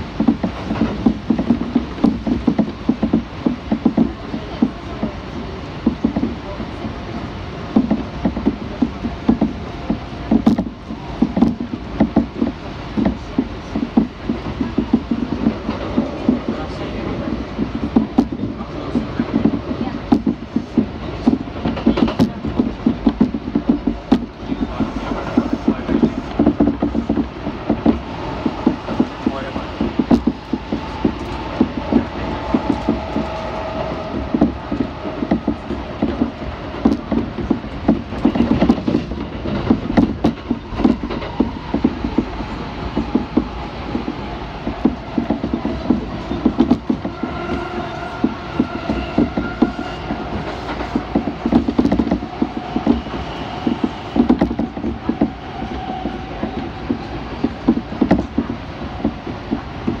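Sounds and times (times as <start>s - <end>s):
train rumbling: 0.0s - 60.0s
wheels clattering over rails: 7.7s - 60.0s.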